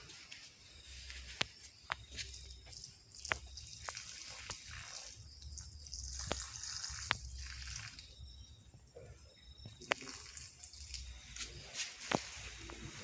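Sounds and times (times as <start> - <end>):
water dripping: 1.3 - 12.3.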